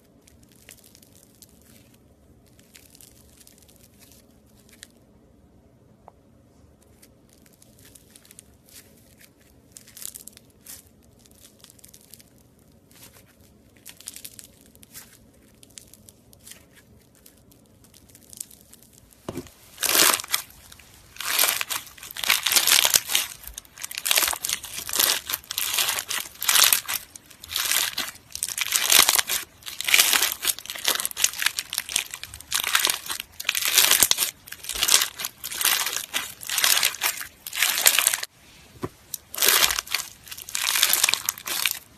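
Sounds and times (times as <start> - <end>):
slime crackling and popping: 0.0 - 5.0, 6.9 - 38.3, 39.0 - 41.9.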